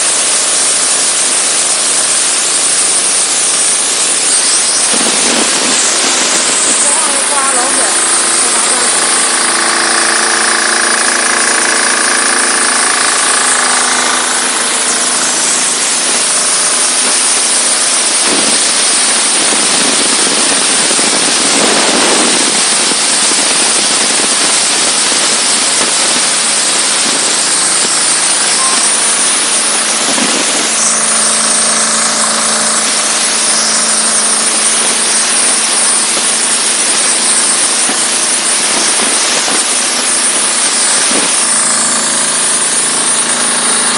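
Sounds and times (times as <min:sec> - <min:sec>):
engine drone: 0:00.0 - 0:43.9
high-pressure spray hissing: 0:00.0 - 0:43.9.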